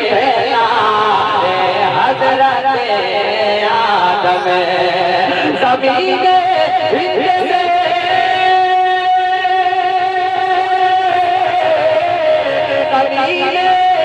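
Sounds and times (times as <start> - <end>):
man singing through microphone: 0.0 - 14.0.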